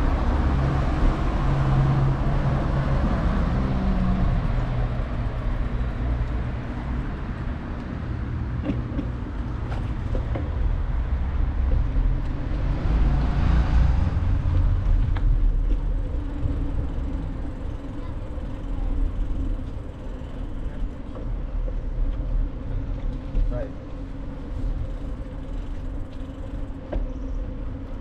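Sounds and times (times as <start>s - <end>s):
bicycle ride rumble: 0.0s - 28.0s
passing vehicle: 0.0s - 28.0s.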